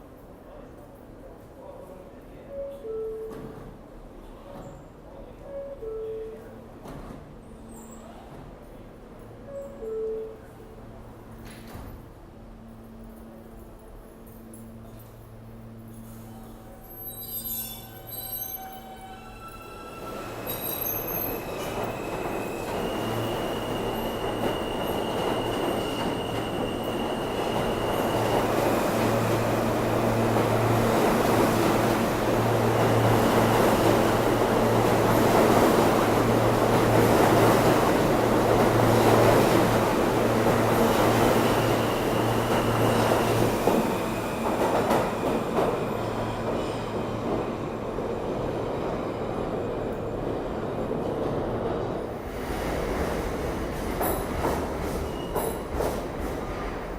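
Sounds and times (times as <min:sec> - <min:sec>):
subway train moving: 0:00.0 - 0:56.9.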